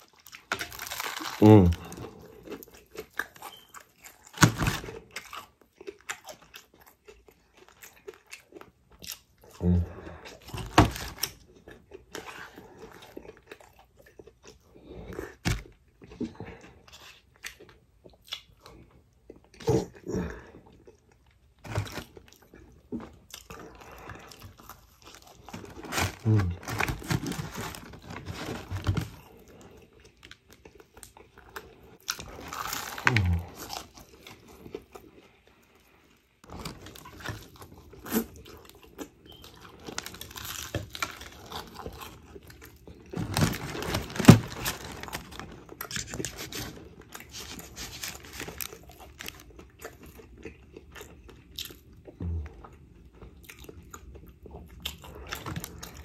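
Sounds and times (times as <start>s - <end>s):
crunching fried chicken: 0.0s - 20.2s, 20.8s - 35.3s, 36.4s - 56.0s.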